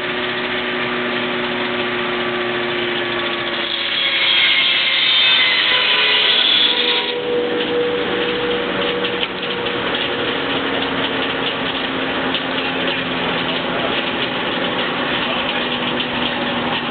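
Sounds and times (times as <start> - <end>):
circular saw whirring: 0.0 - 16.9.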